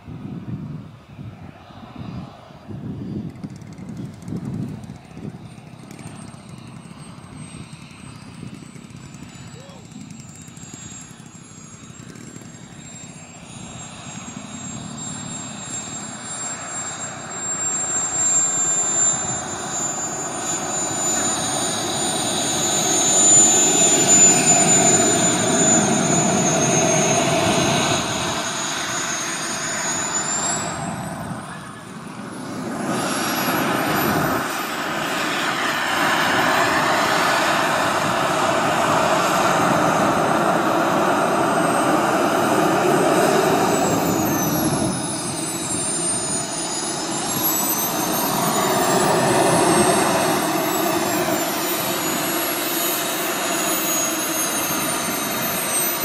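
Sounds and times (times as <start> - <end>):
model jet turbine whine: 0.0 - 56.0.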